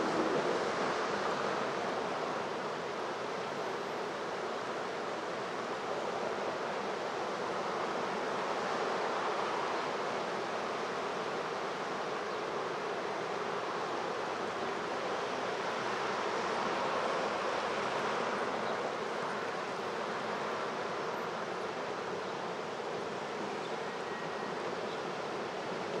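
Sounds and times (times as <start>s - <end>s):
river rushing over a weir: 0.0s - 26.0s.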